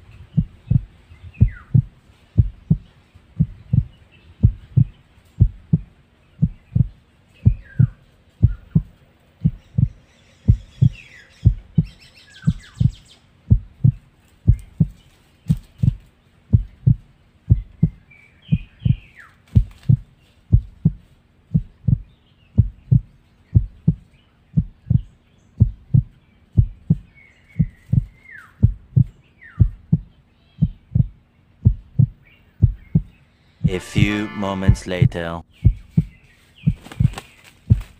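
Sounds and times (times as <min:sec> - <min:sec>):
birds chirping faintly: 0:00.0 - 0:37.9
heartbeat thumps: 0:00.0 - 0:37.9.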